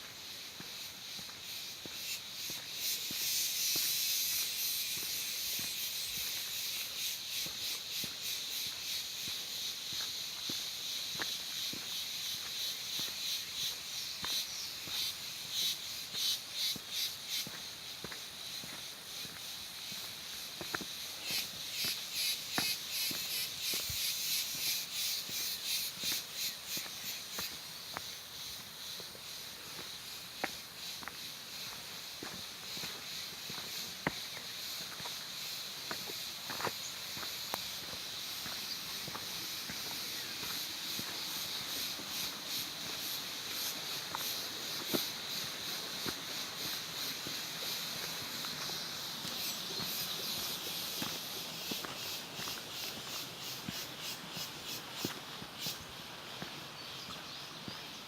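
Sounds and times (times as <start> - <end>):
footsteps on forest trail: 0.0 - 58.0
steady high-pitched hiss: 0.0 - 58.0.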